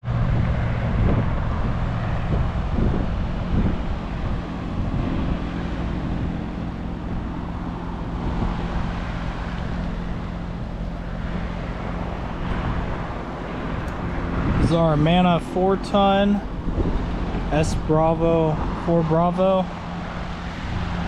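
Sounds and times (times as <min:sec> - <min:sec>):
air rushing: 0:00.0 - 0:19.0
heat pump low hum: 0:00.0 - 0:21.0.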